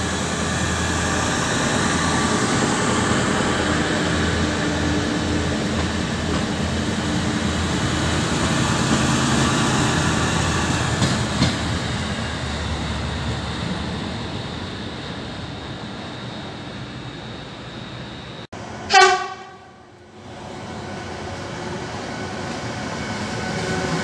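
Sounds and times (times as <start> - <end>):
diesel train engine droning: 0.0 - 24.0
train wheels on track: 0.0 - 24.0.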